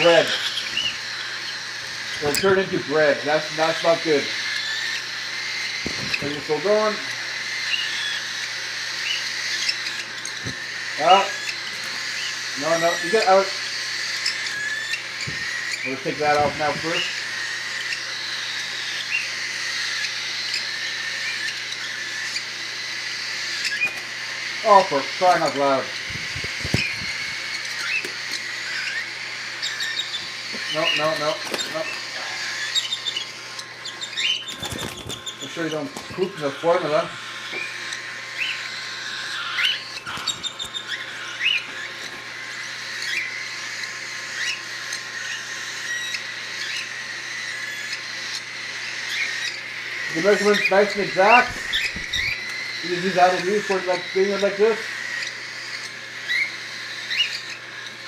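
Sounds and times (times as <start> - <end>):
cockatiels chirping: 0.0 - 58.0.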